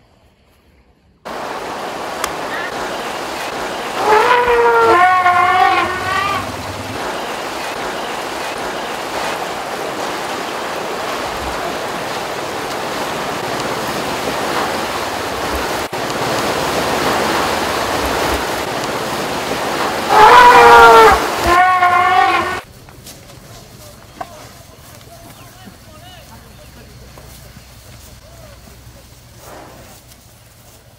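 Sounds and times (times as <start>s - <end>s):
elephants splashing through water: 1.3s - 30.9s.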